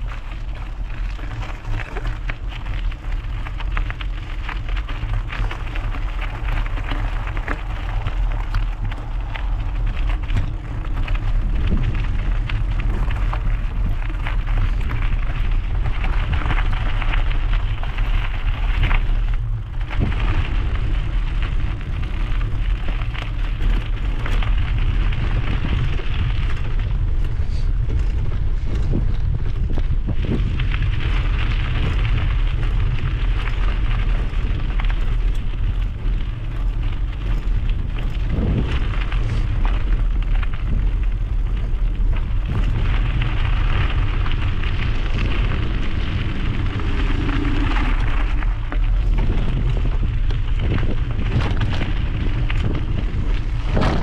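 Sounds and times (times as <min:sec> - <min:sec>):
bike tyres crunching on gravel: 0:00.0 - 0:54.0
wind rumbling on microphone: 0:00.0 - 0:54.0.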